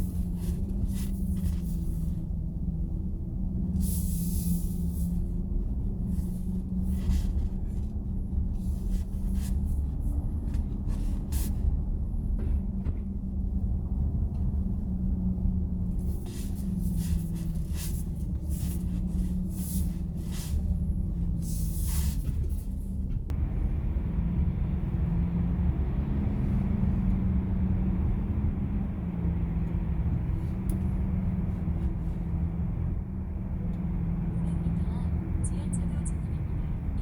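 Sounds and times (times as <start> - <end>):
road rumble of driving car: 0.0 - 37.0.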